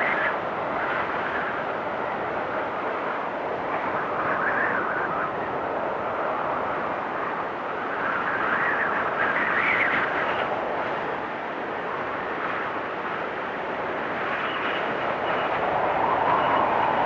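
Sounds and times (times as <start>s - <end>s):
blizzard wind blowing: 0.0s - 17.0s
wind whistling: 0.0s - 17.0s.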